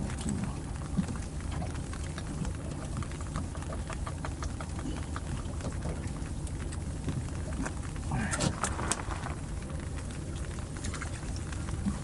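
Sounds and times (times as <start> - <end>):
low rumble: 0.0 - 12.0
water lapping against boat hull: 0.0 - 12.0.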